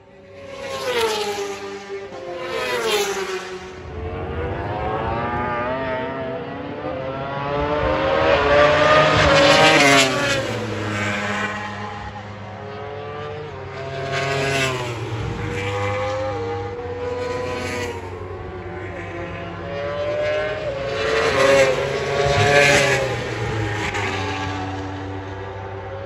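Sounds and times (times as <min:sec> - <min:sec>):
racing engines passing by: 0:00.0 - 0:26.0.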